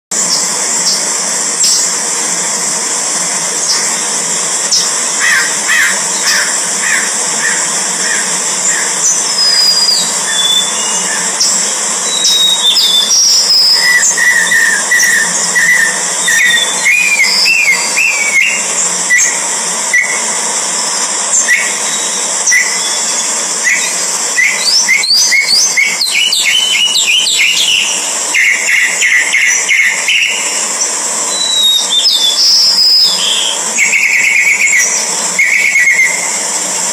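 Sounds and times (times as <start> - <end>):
bird whistling sliding notes: 3.6 - 20.3, 21.3 - 36.5
birds chirping: 3.6 - 20.3, 21.4 - 36.5.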